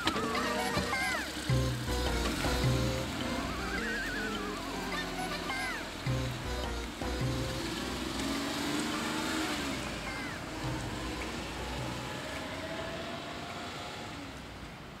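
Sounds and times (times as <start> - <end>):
vehicles going by: 0.0 - 15.0.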